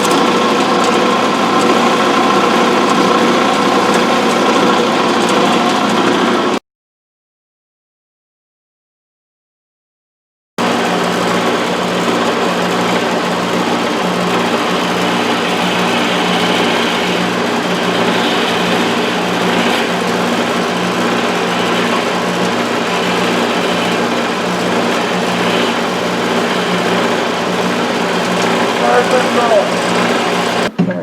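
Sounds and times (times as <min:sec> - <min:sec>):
turning tool cutting wood hiss: 0:00.0 - 0:06.6, 0:10.6 - 0:30.7
wood lathe motor hum: 0:00.0 - 0:06.6, 0:10.6 - 0:30.8.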